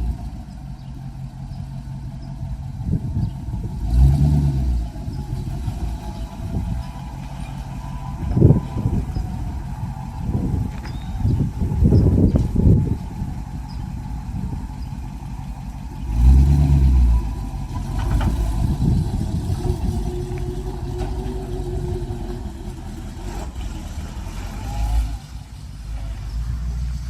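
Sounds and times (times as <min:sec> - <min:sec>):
truck engine revving: 0:01.5 - 0:27.0.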